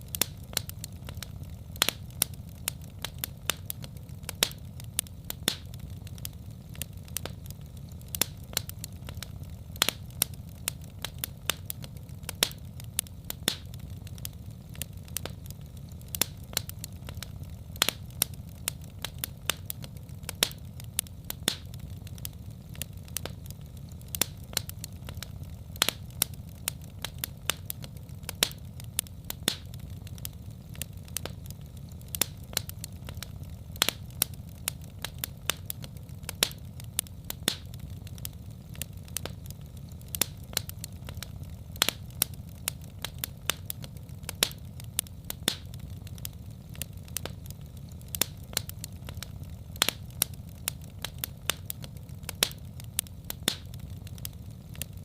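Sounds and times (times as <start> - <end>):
low rumble of burning: 0.0 - 55.0
wood fire pops and snaps: 0.0 - 55.0.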